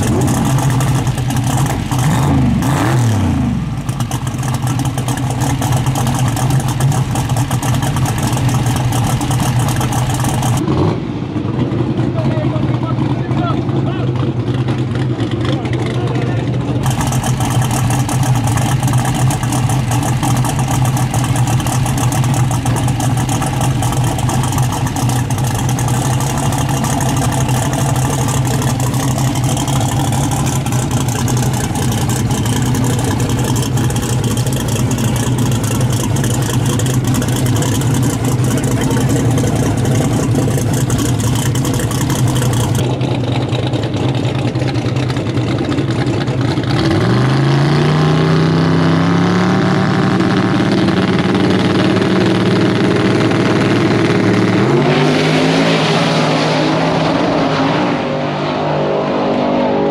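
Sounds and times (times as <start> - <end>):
engine revving: 0.0 - 43.0, 45.8 - 59.9
car engine idling: 0.0 - 47.0, 49.6 - 54.8.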